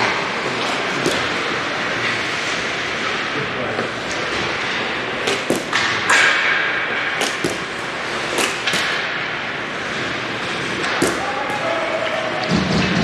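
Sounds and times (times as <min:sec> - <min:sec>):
hockey sticks and puck clacking: 0:00.0 - 0:13.0.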